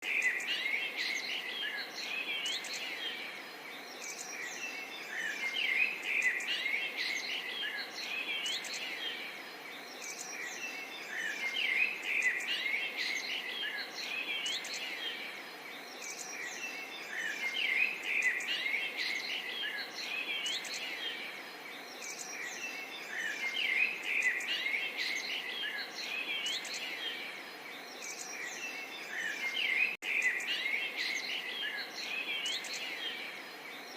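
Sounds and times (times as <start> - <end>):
songbirds chirping: 0.0 - 33.9
steady background hiss: 0.0 - 33.9.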